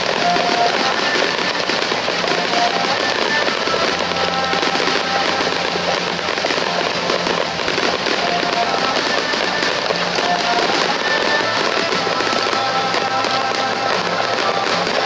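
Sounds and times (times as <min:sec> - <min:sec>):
fireworks crackling and popping: 0:00.0 - 0:15.0
music playing: 0:00.0 - 0:15.0.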